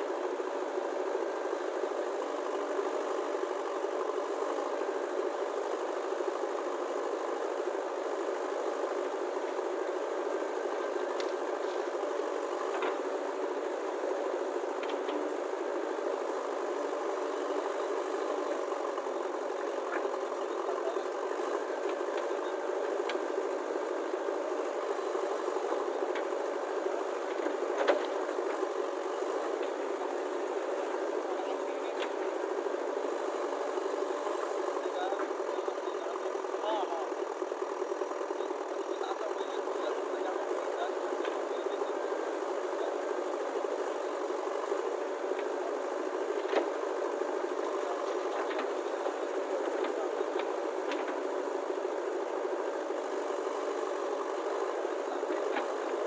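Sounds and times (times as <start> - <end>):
engine-like mechanical running: 0.0 - 56.0.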